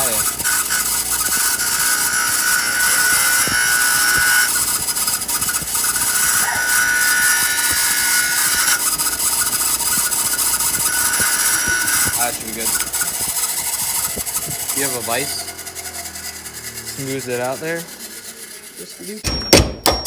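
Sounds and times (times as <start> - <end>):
power tool grinding steel: 0.0 - 19.4.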